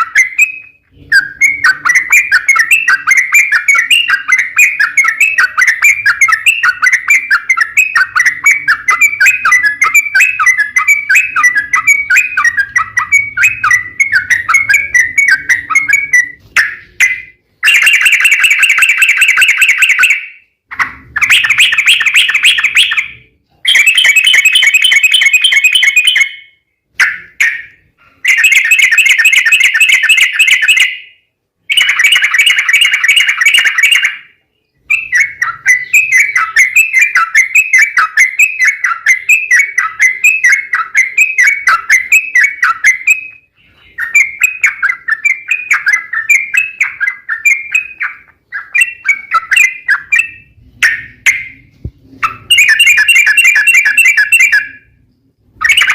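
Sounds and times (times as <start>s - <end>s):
bulbul chattering song: 0.0s - 55.9s.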